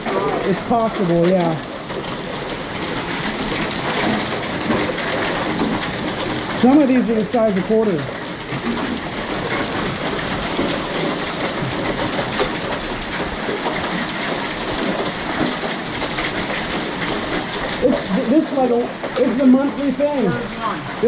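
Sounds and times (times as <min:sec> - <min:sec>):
hailstones clicking and knocking: 0:00.0 - 0:21.0
heavy rain hissing: 0:00.0 - 0:21.0.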